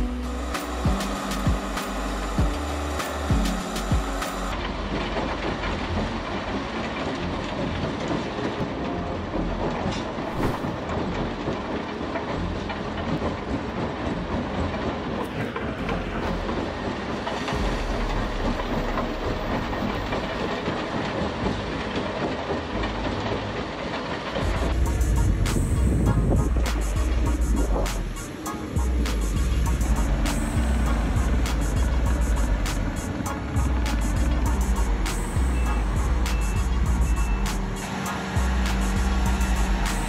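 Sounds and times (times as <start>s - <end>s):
deep engine rumble: 0.0s - 40.0s.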